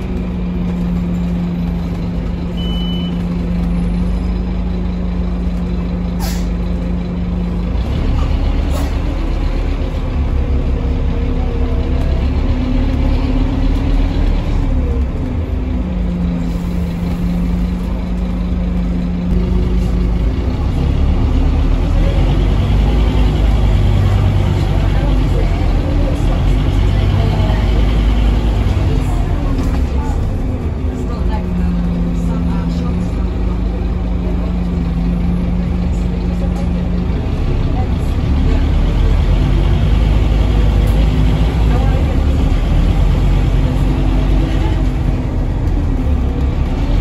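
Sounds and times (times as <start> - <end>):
bus driveline whine: 0.0 - 47.0
bus engine rumble: 0.0 - 47.0.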